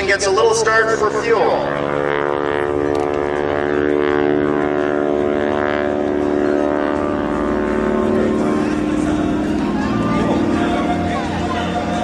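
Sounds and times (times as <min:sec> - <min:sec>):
propeller plane engine buzzing: 0:00.0 - 0:12.0.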